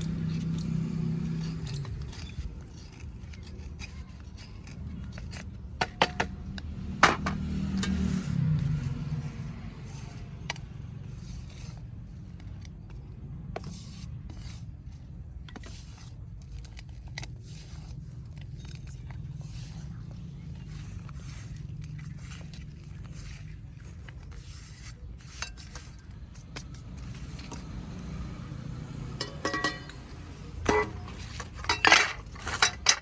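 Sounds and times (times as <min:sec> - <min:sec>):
clay cups cracking: 0:00.0 - 0:33.0
clay pieces scraping: 0:00.0 - 0:33.0.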